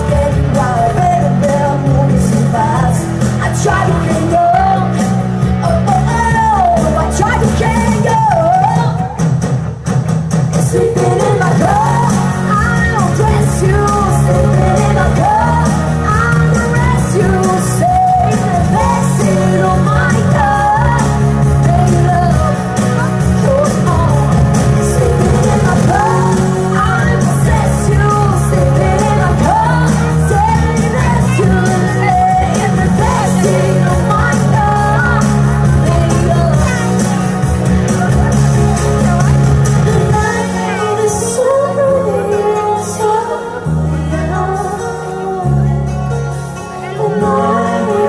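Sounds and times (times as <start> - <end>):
woman singing into a microphone: 0.0 - 9.2, 10.5 - 48.0
pop-rock backing track: 0.0 - 48.0.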